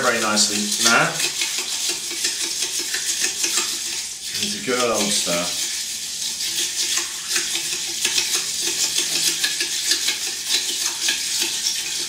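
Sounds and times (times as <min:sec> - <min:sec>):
spoon stirring ice in metal cup: 0:00.0 - 0:12.0.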